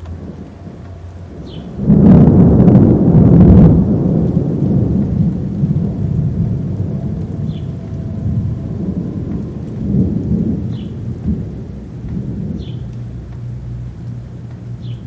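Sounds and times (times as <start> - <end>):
rain hiss: 0.0 - 15.0
thunder rumbling: 0.0 - 15.0.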